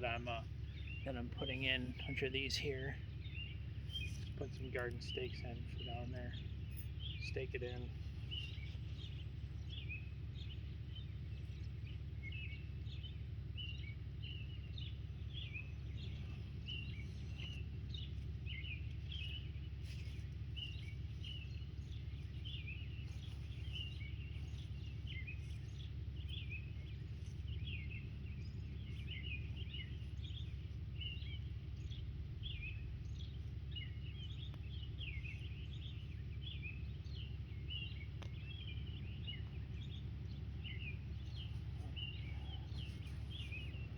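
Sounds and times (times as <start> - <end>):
low outdoor rumble: 0.0 - 43.9
small birds chirping: 0.0 - 43.9.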